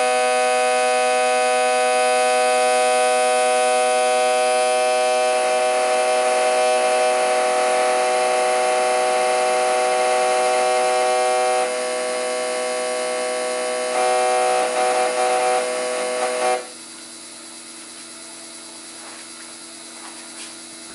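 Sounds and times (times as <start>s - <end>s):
fuel injectors buzzing: 0.0s - 20.7s.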